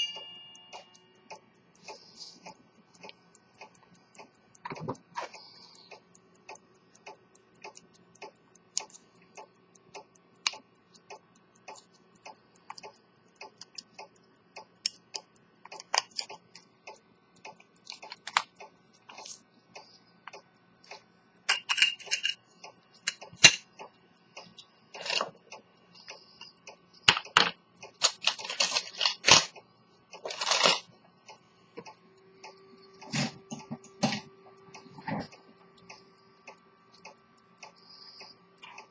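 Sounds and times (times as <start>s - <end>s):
pocket watch ticking: 0.0s - 38.9s.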